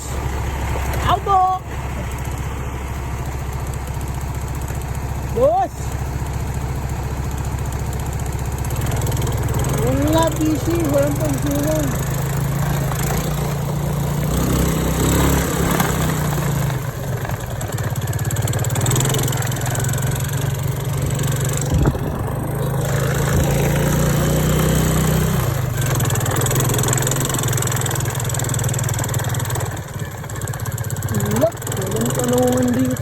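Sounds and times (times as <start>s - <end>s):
motorcycle engine droning: 0.0s - 33.0s.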